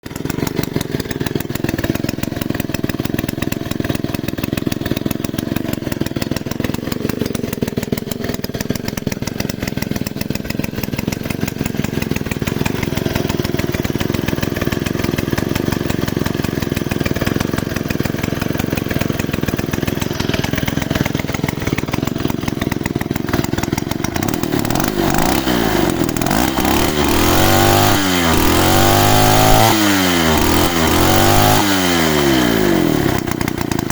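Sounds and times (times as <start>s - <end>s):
chainsaw engine idling and revving: 0.0s - 33.9s.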